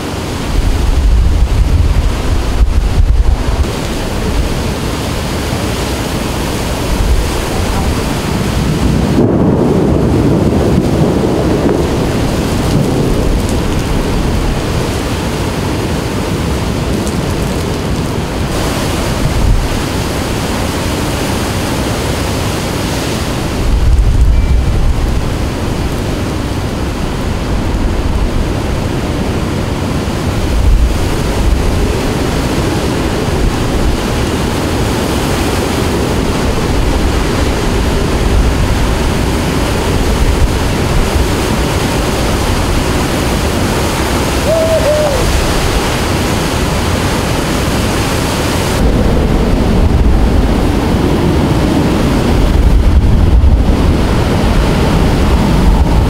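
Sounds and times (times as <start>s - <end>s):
driving rain: 0.0s - 56.0s
hurricane wind: 0.0s - 56.0s
wind buffeting on microphone: 0.0s - 56.0s.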